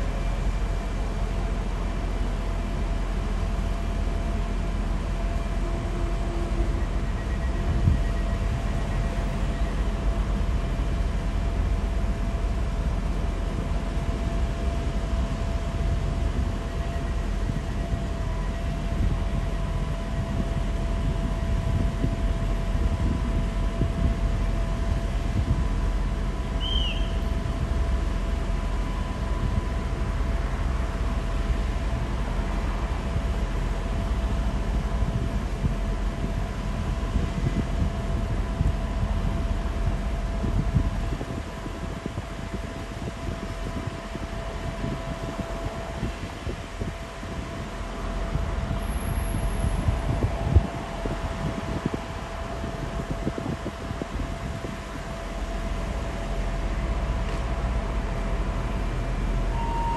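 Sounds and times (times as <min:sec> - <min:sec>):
constant whine: 0:00.0 - 0:59.9
diesel railcar idling: 0:00.0 - 0:59.9.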